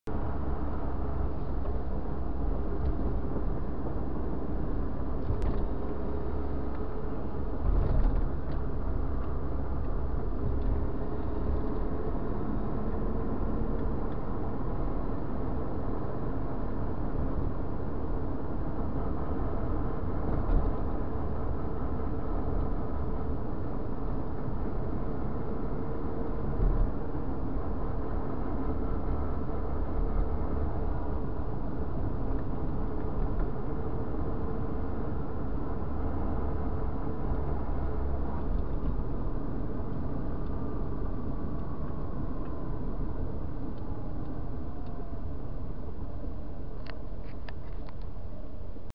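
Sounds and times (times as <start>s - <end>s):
car engine rumble: 0.1s - 48.9s
tyre road noise: 0.1s - 48.9s.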